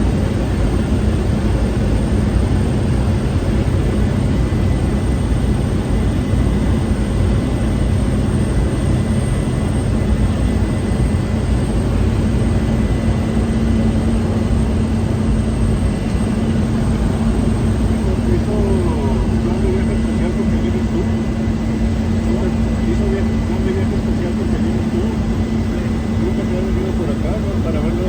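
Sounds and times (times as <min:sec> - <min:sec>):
turboprop engine drone in cabin: 0:00.0 - 0:28.0.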